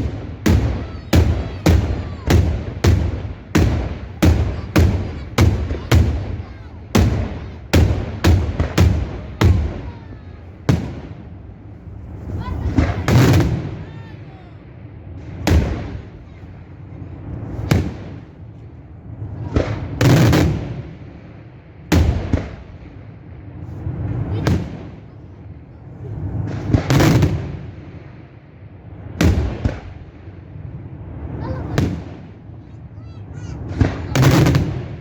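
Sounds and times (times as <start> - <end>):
fireworks bangs with echo: 0.0 - 35.0.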